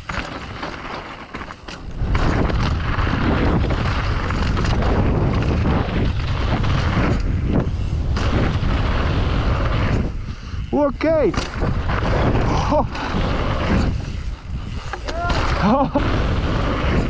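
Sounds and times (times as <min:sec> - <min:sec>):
bike tyre rumble on dirt: 0:00.0 - 0:17.0
wind buffeting microphone: 0:01.8 - 0:17.0.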